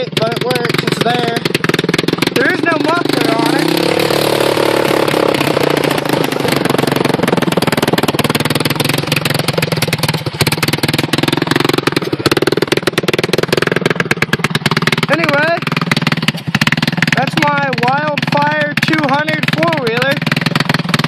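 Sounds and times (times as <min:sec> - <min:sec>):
atv engine idling: 0:00.0 - 0:21.0.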